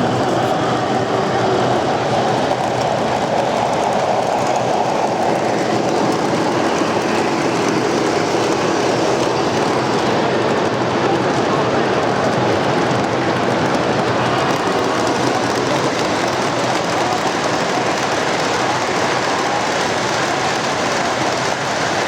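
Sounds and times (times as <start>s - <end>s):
model trains rolling on track: 0.0s - 22.0s.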